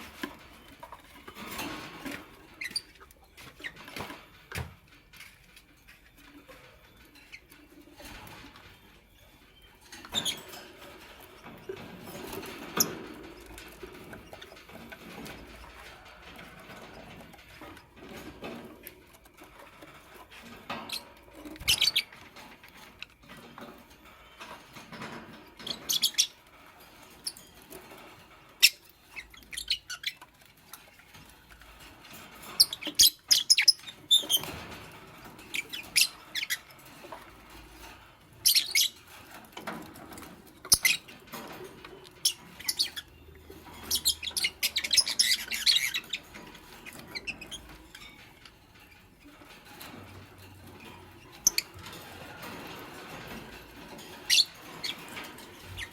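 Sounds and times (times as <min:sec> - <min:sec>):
light scratching and rustling: 0:00.0 - 0:55.9.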